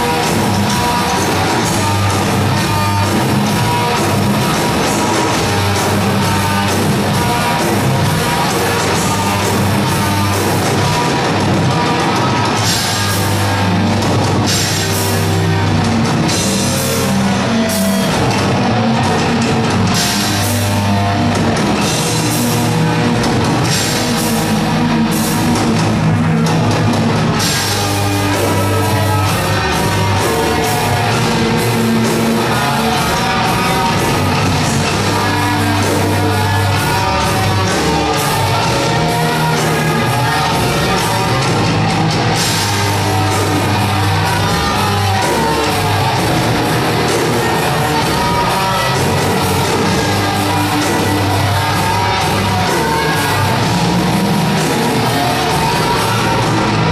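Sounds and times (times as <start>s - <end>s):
metal band playing loud: 0.0s - 56.9s.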